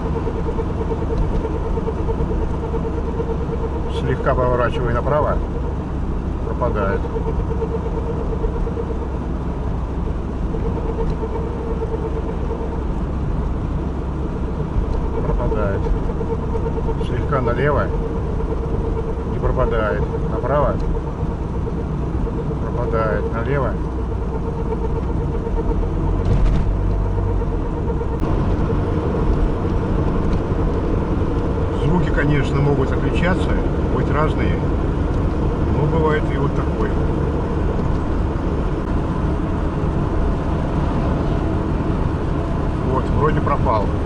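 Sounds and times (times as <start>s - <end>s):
road and tyre noise: 0.0s - 44.0s
wheel bearing humming: 0.0s - 44.0s.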